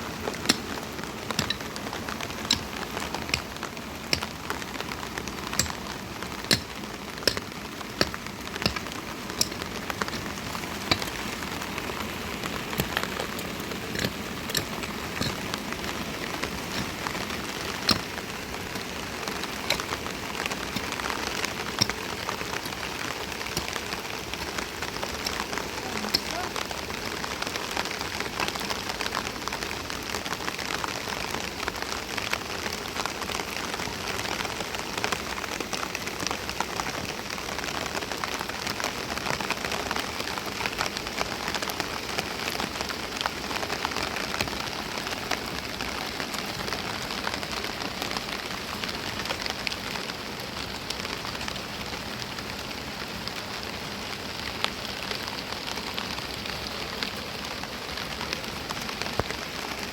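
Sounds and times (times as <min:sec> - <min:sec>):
raindrops ticking close by: 0:00.0 - 0:59.9
steady rain falling: 0:00.0 - 0:59.9.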